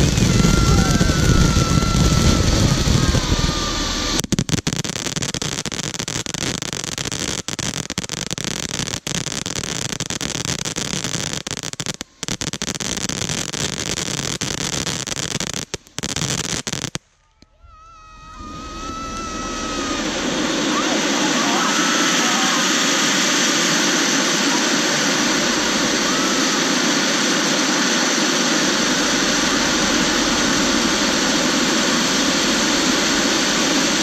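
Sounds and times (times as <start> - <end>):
firework fountain hissing: 0.0 - 17.2, 18.0 - 34.0.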